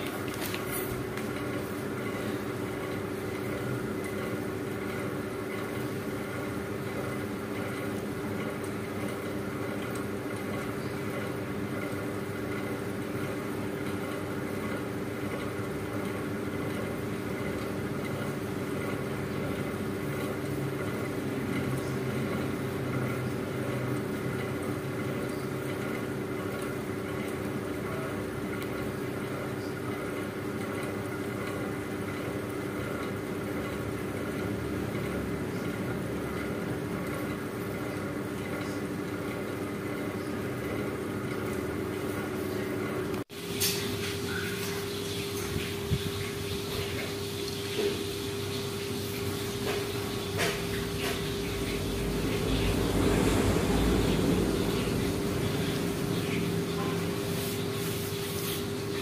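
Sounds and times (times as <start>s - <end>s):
machine hum with tones: 0.0s - 59.0s.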